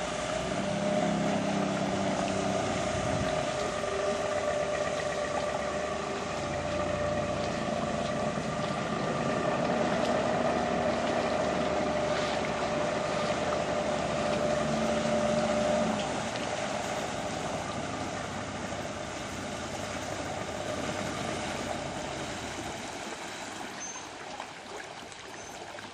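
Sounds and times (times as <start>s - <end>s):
motorboat engine running: 0.0s - 25.9s.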